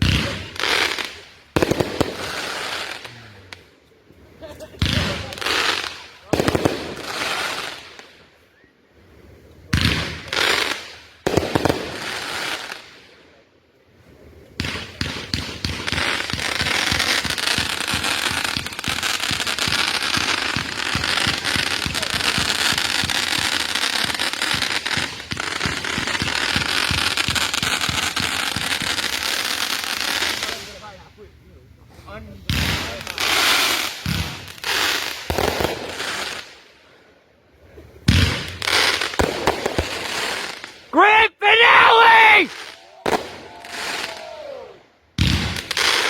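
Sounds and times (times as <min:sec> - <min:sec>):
fireworks bangs: 0:00.0 - 0:03.6, 0:04.4 - 0:08.1, 0:09.7 - 0:13.0, 0:14.6 - 0:30.8, 0:31.9 - 0:36.6, 0:37.7 - 0:46.0
fireworks crackling: 0:00.0 - 0:08.4, 0:09.2 - 0:13.4, 0:14.0 - 0:46.0.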